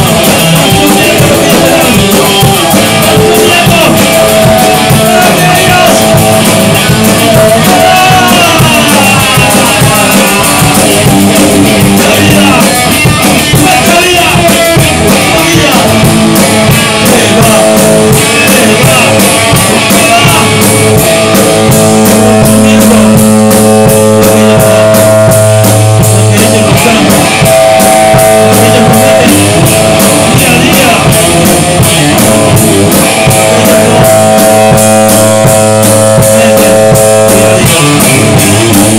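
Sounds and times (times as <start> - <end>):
drum kit: 0.0 - 38.9
guitar: 0.0 - 38.9.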